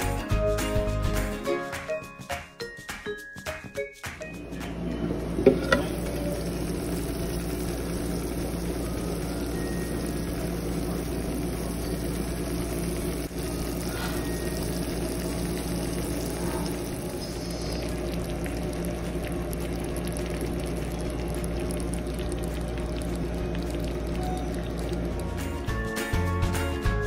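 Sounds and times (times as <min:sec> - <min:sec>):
food sizzling in a pot: 0:04.4 - 0:27.0
low mechanical hum: 0:04.4 - 0:27.0.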